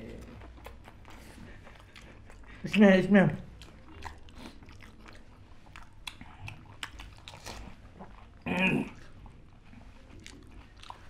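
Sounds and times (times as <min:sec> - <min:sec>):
crunchy food being chewed: 0:00.0 - 0:02.8, 0:03.4 - 0:11.0.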